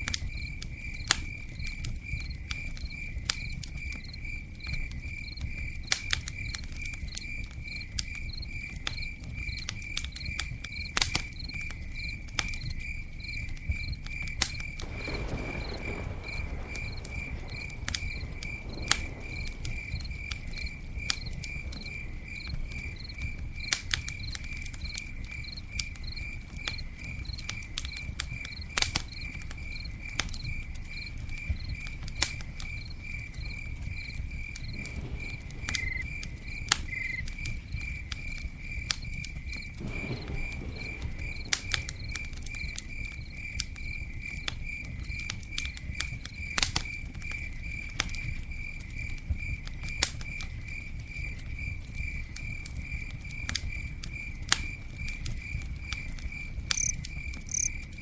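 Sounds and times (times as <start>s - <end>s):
campfire crackling and popping: 0.0s - 58.0s
cricket chirping: 0.0s - 58.0s
fire rumbling: 0.0s - 58.0s.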